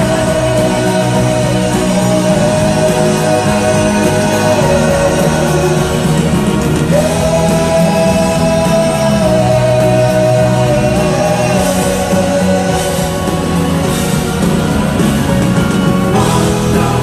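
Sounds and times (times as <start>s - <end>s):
live pop band playing: 0.0s - 17.0s.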